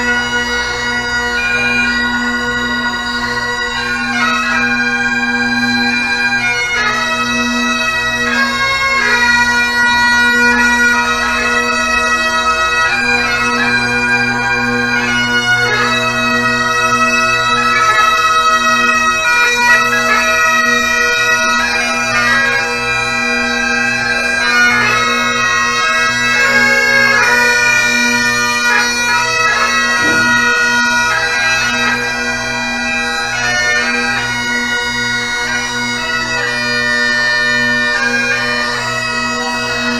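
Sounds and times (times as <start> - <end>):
bagpipes playing a tune: 0.0 - 39.9.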